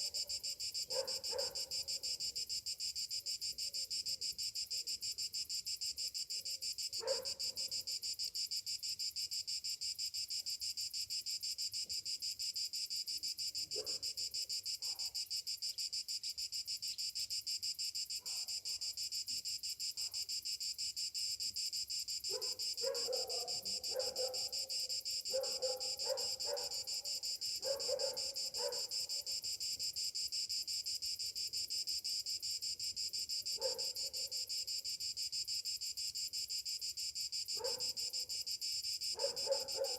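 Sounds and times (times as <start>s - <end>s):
cicadas buzzing: 4.3s - 39.9s.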